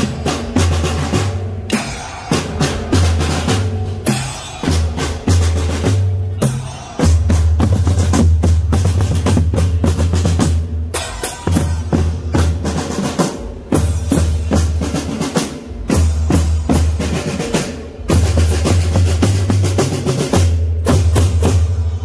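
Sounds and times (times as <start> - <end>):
snare and bass drums beating: 0.0 - 21.7.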